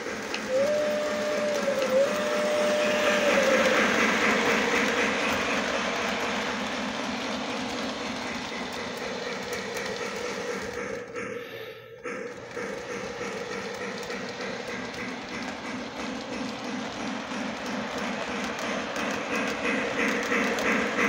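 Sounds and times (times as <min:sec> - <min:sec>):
model train whirring: 0:00.0 - 0:21.0.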